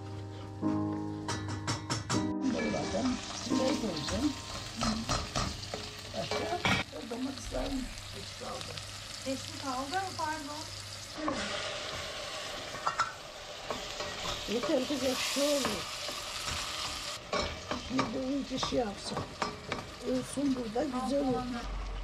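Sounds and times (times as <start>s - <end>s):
food sizzling in a pot: 2.4s - 22.0s.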